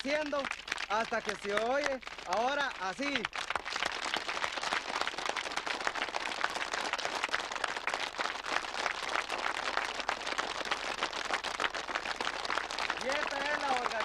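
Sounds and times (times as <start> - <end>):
crowd clapping: 0.0 - 14.0.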